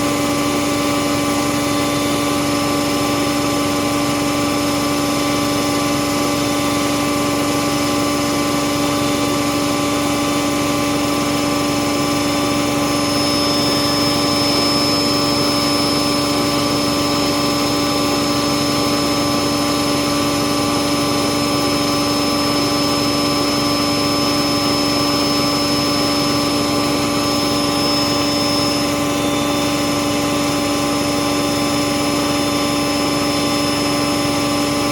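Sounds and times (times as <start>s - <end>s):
washing machine motor humming: 0.0s - 34.9s.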